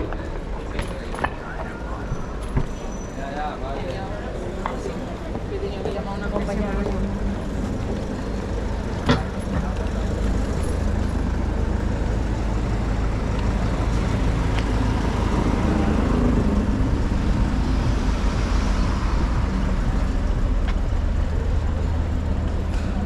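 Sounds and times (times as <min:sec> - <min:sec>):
cars and buses passing: 0:00.0 - 0:23.0.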